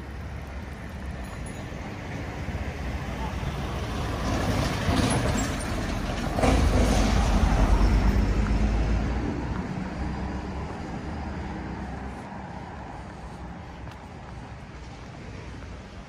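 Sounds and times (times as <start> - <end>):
heavy vehicle engine rumble: 0.0 - 16.0.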